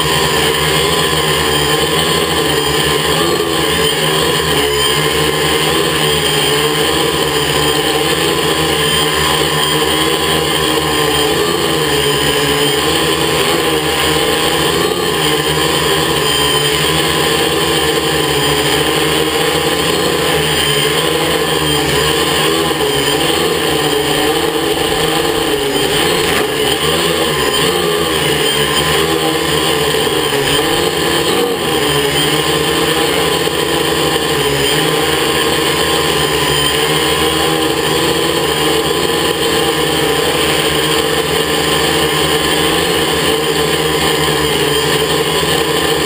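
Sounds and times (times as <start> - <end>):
quadcopter buzzing hum: 0.0 - 46.0.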